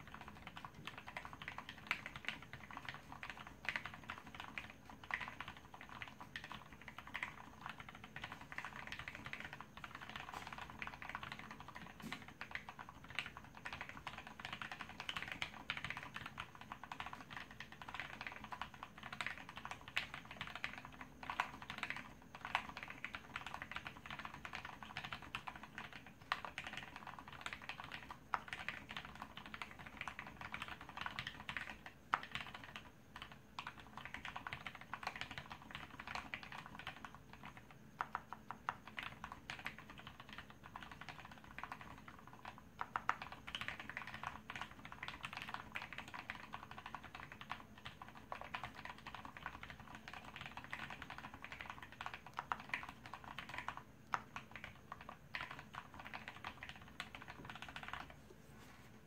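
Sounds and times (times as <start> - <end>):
fast typing key clacks: 0.0 - 58.2.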